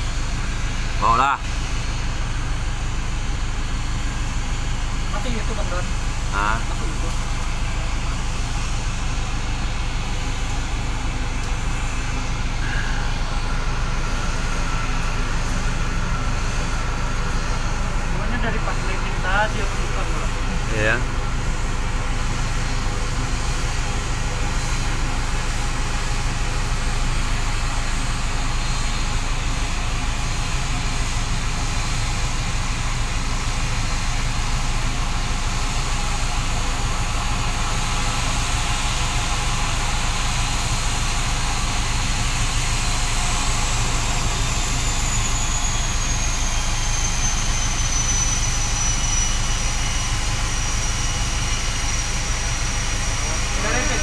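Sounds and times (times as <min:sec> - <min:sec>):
turboprop engines running: 0:00.0 - 0:54.0.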